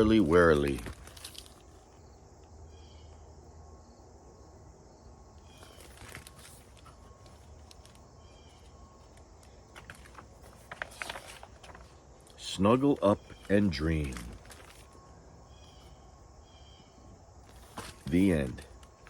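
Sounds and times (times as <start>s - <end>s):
bird chirping: 0.0s - 4.1s, 4.9s - 9.8s, 12.6s - 19.0s.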